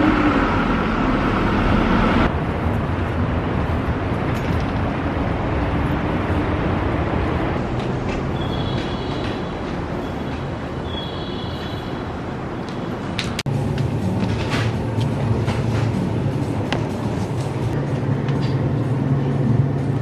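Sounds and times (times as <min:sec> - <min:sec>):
street background noise: 0:00.0 - 0:20.0.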